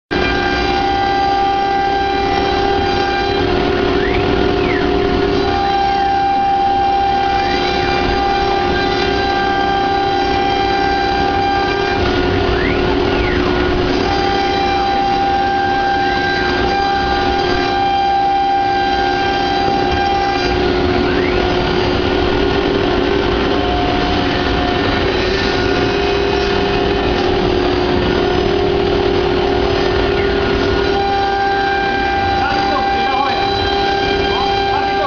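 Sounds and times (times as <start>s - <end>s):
wood carving router whining: 0.1s - 35.0s.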